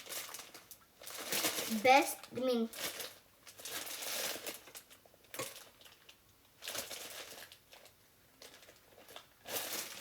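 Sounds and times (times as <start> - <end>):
food packaging rustling and crinkling: 0.0 - 10.0.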